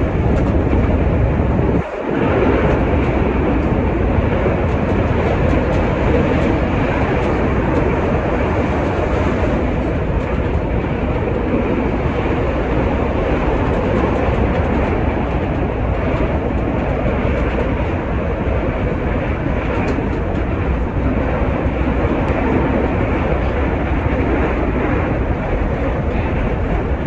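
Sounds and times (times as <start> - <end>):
train wheels rolling on rail: 0.0 - 27.0.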